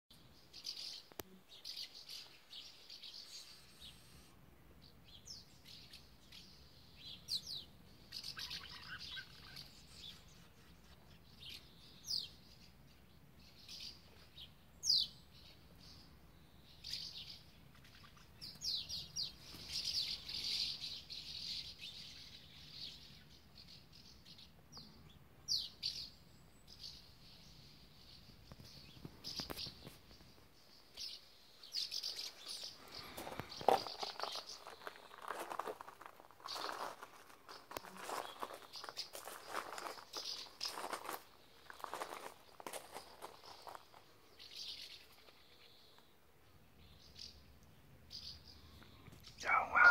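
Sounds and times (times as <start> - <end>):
small birds chirping: 0.1 - 49.9.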